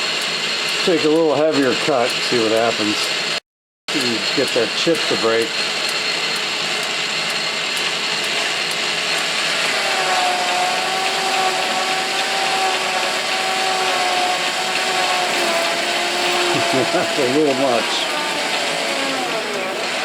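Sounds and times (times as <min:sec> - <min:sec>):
metal lathe machining: 0:00.0 - 0:20.0
steady whining tone: 0:03.9 - 0:20.0.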